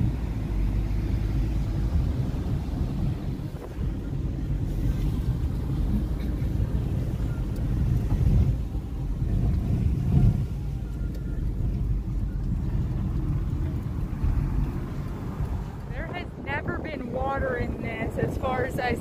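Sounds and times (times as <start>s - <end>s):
car driving heard from inside: 0.0s - 19.0s.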